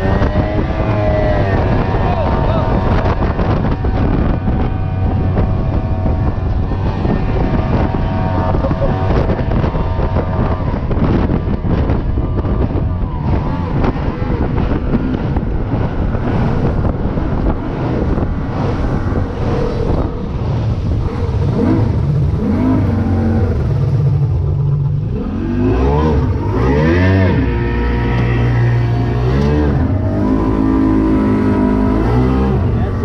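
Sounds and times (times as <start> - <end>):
outboard motor running hard: 0.0 - 33.0
water rushing: 0.0 - 33.0
wind: 0.0 - 33.0.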